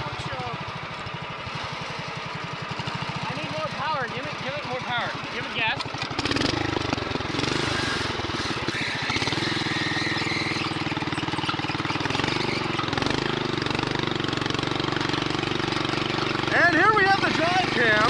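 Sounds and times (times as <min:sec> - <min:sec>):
go-kart engine running: 0:00.0 - 0:18.0.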